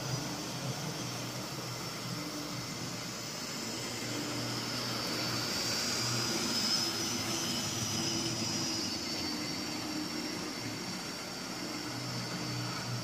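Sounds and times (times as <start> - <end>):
model train motor whining: 0.0 - 13.0.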